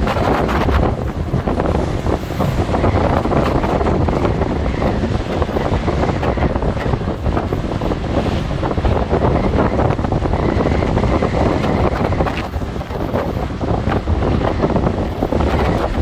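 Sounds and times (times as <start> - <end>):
large waves washing: 0.0 - 16.0
strong wind buffeting microphone: 0.0 - 16.0.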